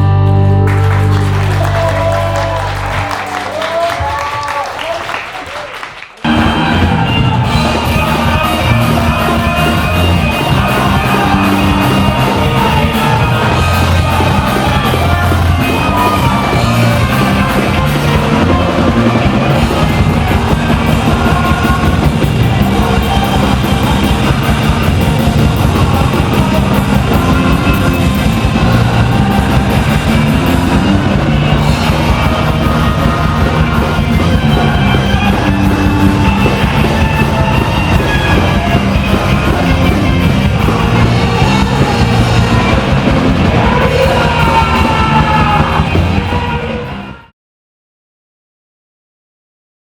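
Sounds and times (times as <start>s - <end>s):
live rock band playing: 0.0s - 3.5s, 6.2s - 47.2s
person singing: 6.2s - 47.3s.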